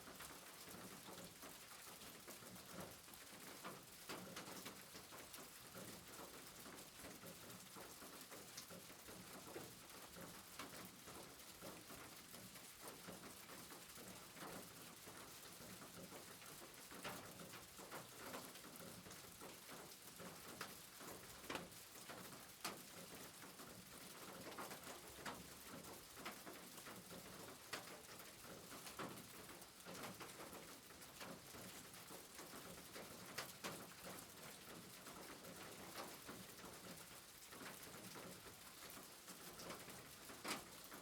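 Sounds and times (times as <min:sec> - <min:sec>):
faint steady rain: 0:00.0 - 0:41.0.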